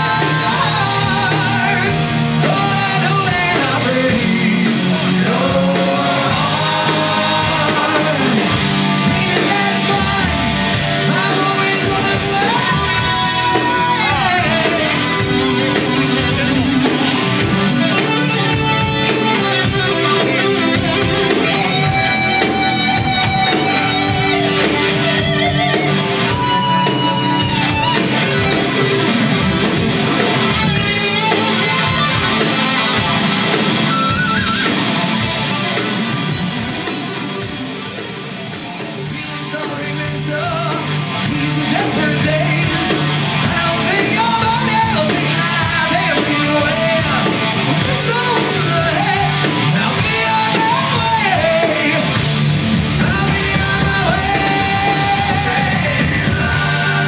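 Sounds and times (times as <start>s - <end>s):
person singing: 0.0s - 35.6s, 38.7s - 57.0s
bass guitar: 0.0s - 57.0s
drum kit: 0.0s - 57.0s
electric guitar: 0.0s - 57.0s.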